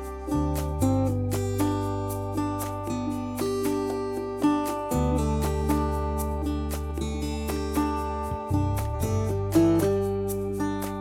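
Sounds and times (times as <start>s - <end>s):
acoustic guitar picking: 0.0s - 11.0s.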